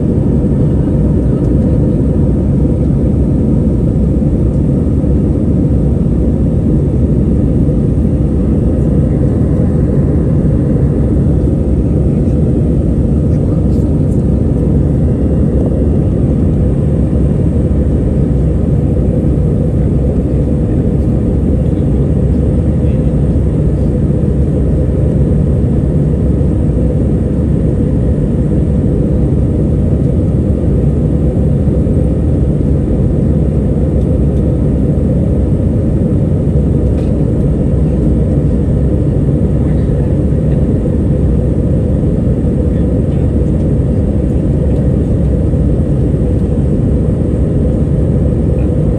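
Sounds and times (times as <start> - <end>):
airflow over fuselage: 0.0 - 48.9
low rumble of jet engines: 0.0 - 48.9.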